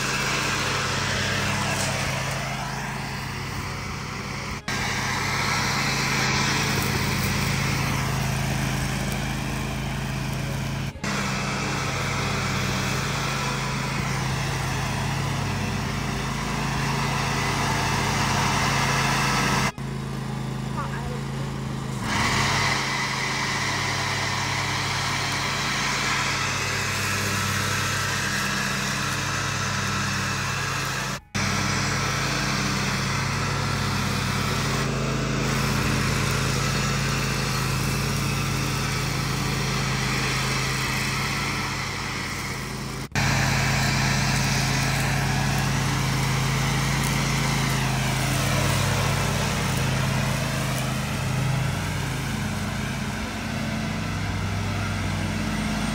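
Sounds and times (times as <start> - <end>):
riding mower engine running: 0.0 - 55.9.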